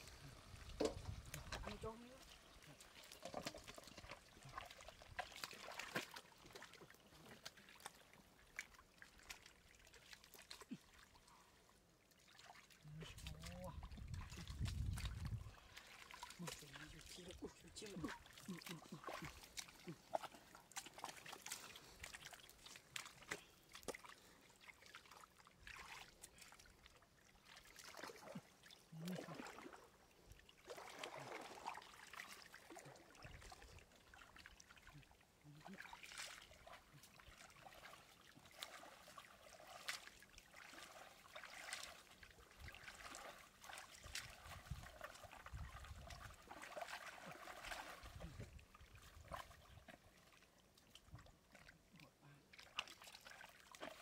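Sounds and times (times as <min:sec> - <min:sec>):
shallow water trickling: 0:00.0 - 0:54.0
small splashes: 0:00.0 - 0:54.0.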